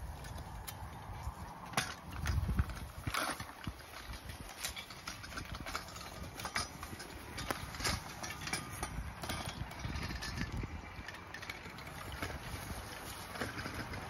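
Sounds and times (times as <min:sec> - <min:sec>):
mower frame knocking and clattering: 0:00.0 - 0:14.0.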